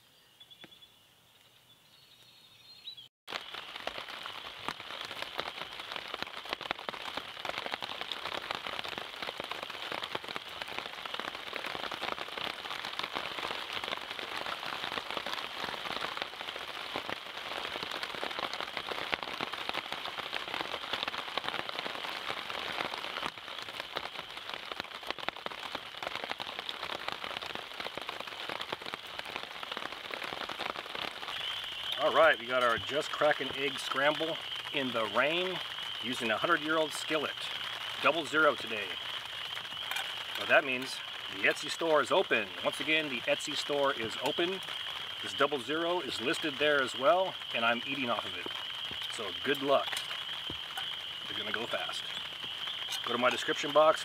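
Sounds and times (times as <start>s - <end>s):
rain pattering on leaves: 3.3s - 54.0s.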